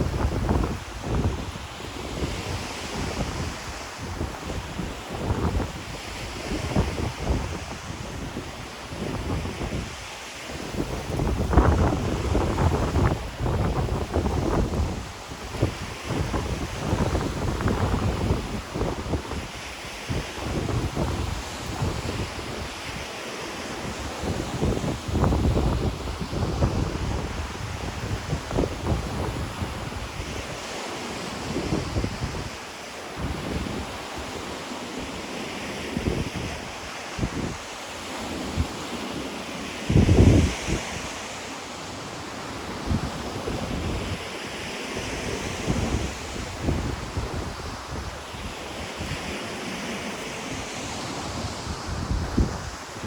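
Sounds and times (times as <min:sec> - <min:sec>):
wind buffeting microphone: 0:00.0 - 0:32.6, 0:33.2 - 0:34.6, 0:35.8 - 0:41.2, 0:42.0 - 0:53.0
ocean waves washing ashore: 0:00.0 - 0:53.0.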